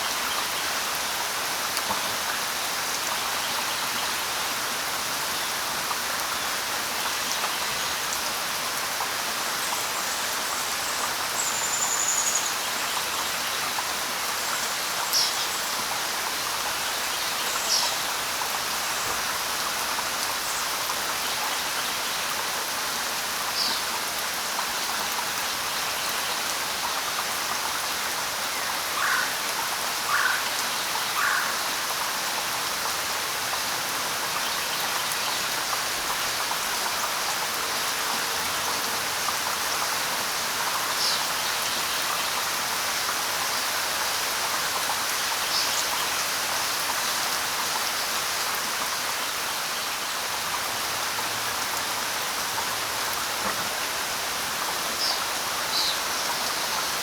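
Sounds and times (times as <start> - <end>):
light rain on leaves: 0.0 - 57.0.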